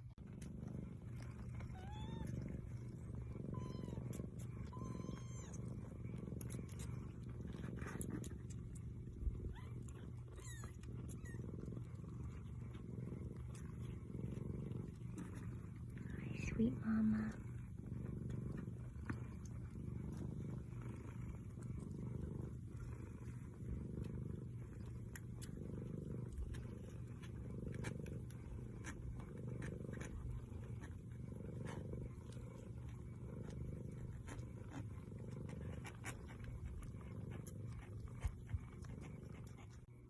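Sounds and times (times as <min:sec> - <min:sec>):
cat purring: 0:00.0 - 0:40.0.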